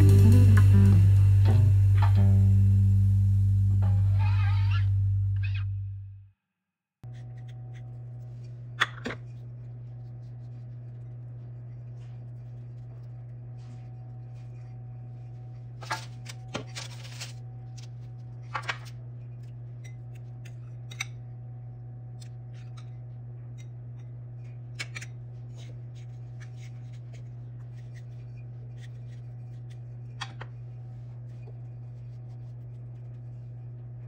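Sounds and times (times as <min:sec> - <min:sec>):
steady low hum: 0:00.0 - 0:06.2, 0:07.0 - 0:34.0.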